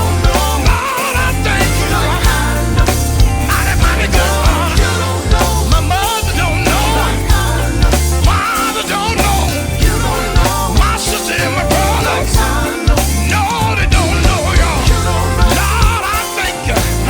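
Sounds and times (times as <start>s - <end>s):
gospel group singing: 0.0s - 17.0s
heavy bass line: 0.0s - 17.0s
lead voice singing: 0.0s - 17.0s
steady drum beat: 0.0s - 17.0s.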